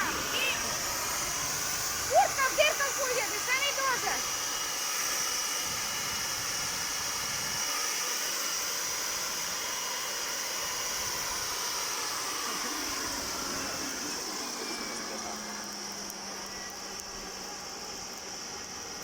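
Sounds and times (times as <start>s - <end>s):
garden blower whining: 0.0s - 19.0s.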